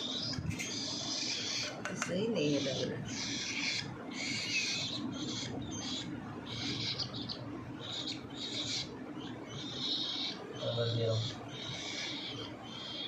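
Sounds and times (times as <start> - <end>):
parrot chicks begging calls: 0.0 - 13.0.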